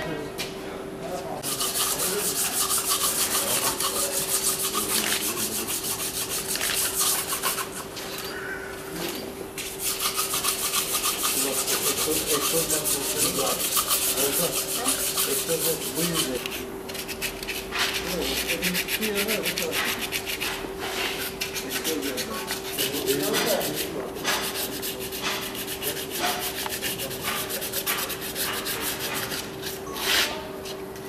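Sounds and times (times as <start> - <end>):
tool scraping metal: 1.4 - 8.4, 9.0 - 30.8.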